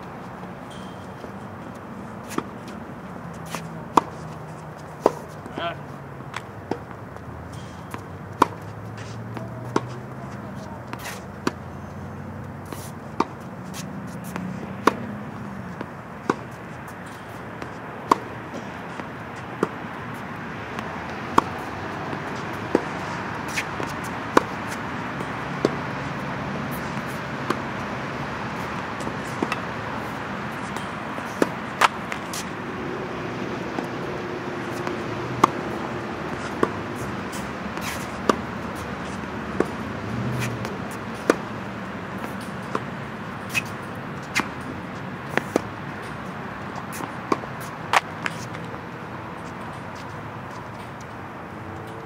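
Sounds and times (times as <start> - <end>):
racquet striking tennis ball: 0.7 - 52.0.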